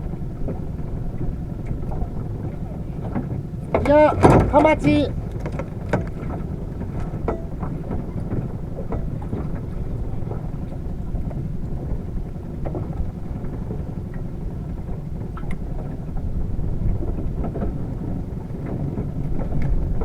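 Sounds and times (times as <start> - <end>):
boat engine low rumble: 0.0 - 20.0.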